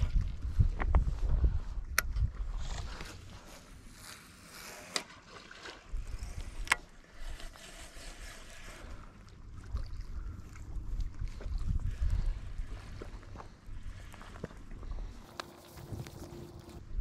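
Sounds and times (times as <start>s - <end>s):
wind rumbling on microphone: 0.0s - 3.9s, 5.9s - 17.0s.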